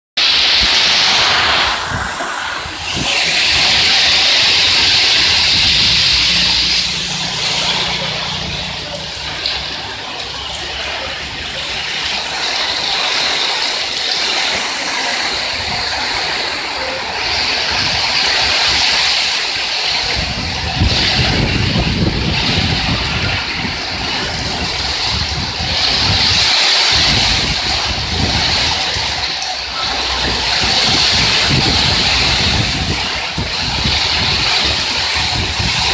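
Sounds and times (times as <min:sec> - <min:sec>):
wind gusts on microphone: 0:00.2 - 0:08.0, 0:14.6 - 0:35.9
heavy rain pouring: 0:00.2 - 0:35.9.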